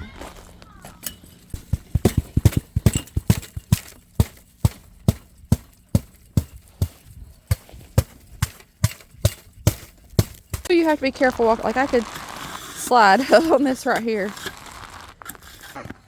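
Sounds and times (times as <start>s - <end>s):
footsteps crunching on snow: 0.0s - 8.4s, 9.8s - 16.0s.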